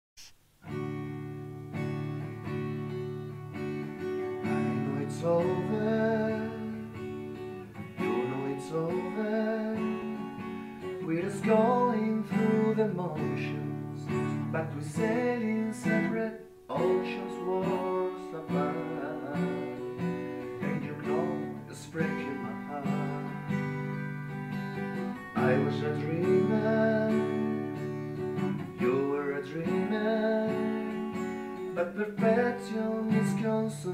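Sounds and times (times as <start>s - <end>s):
acoustic guitar strummed: 0.2s - 33.9s.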